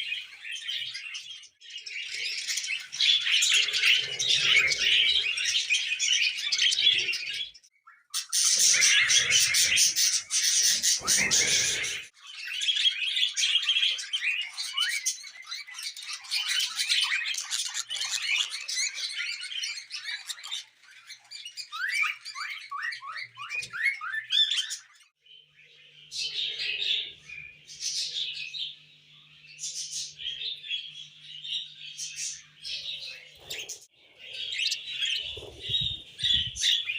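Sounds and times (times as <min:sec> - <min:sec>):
parrots chirping and chattering: 0:00.0 - 0:36.9.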